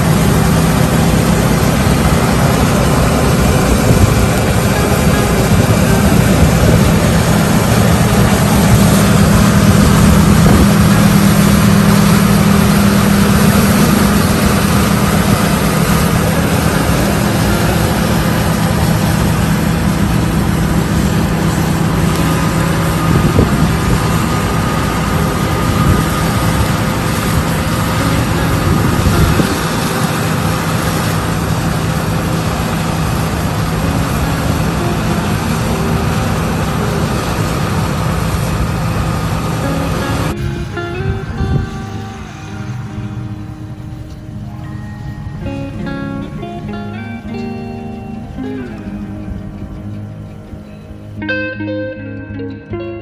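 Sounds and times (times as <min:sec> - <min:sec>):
broad rushing noise: 0:00.0 - 0:51.4
heavy machinery engine droning: 0:00.0 - 0:53.0.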